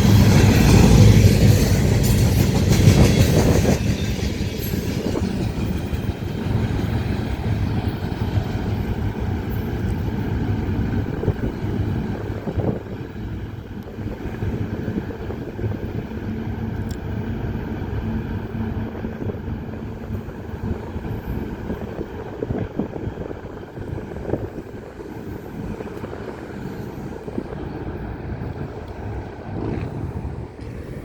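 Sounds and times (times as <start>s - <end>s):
diesel locomotive engine hum: 0.0s - 31.0s
train rumbling: 0.0s - 31.0s.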